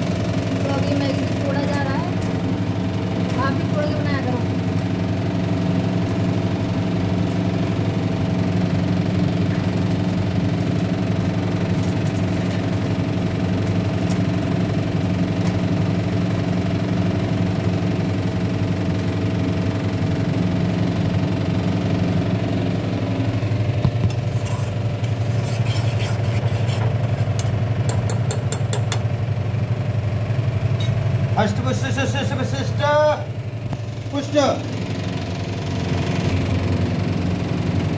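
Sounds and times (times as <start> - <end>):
low mechanical hum: 0.0 - 37.9.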